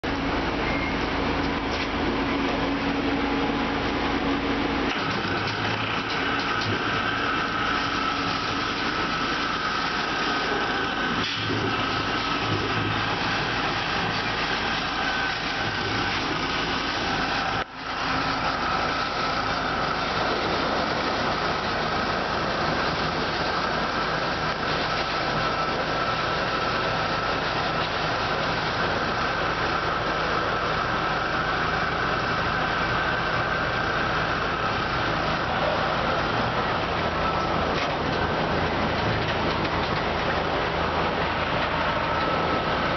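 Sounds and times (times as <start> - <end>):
car wash machine humming: 0.0 - 42.9
high whine: 0.0 - 42.9.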